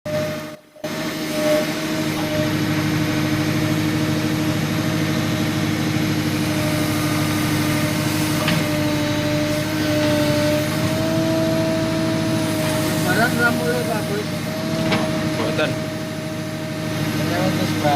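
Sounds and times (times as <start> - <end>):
diesel engine running: 0.1 - 17.9.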